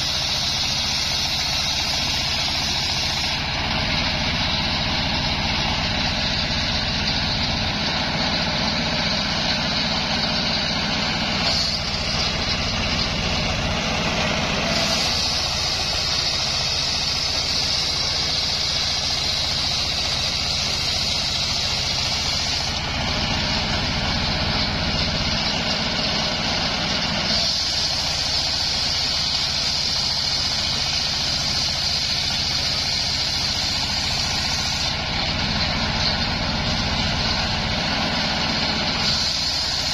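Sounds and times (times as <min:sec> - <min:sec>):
engine humming: 0:00.0 - 0:39.9
saw cutting log: 0:00.0 - 0:39.9.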